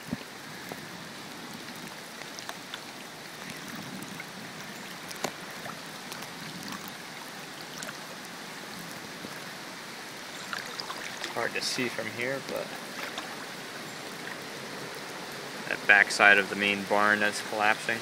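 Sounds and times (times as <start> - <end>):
water swishing around wading person: 0.0 - 18.0.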